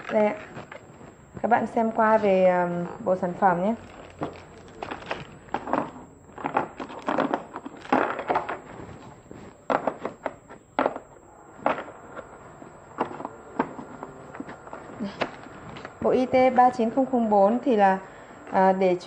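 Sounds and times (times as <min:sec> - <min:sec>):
plastic bag rustling: 0:00.0 - 0:10.8, 0:11.7 - 0:17.0.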